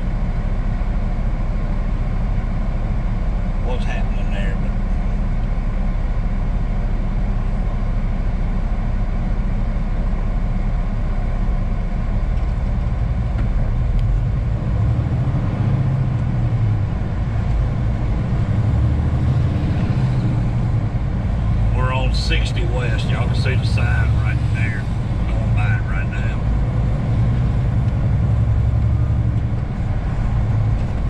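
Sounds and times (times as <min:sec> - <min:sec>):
truck diesel engine: 0:00.0 - 0:31.0.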